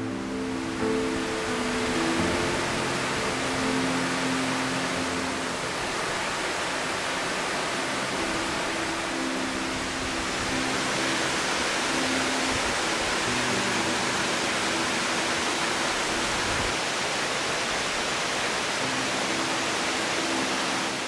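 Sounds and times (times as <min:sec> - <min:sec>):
soft background music: 0:00.0 - 0:21.0
waterfall rushing: 0:00.0 - 0:21.0.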